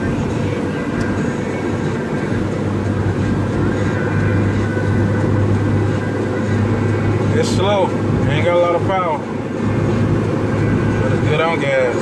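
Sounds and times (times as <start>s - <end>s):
car cabin engine and road drone: 0.0s - 12.0s.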